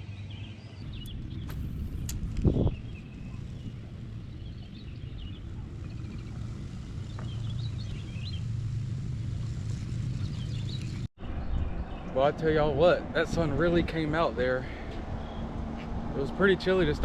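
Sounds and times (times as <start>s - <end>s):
birds chirping: 0.0s - 17.0s
wind rumble on microphone: 0.1s - 17.0s.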